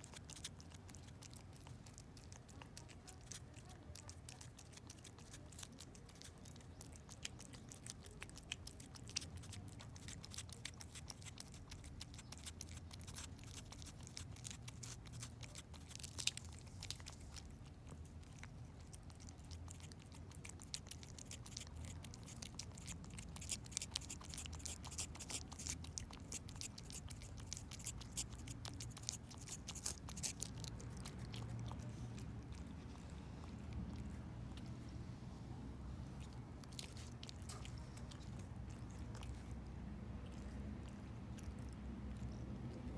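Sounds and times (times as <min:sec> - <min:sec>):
cat licking and chewing: 0:00.0 - 0:42.9.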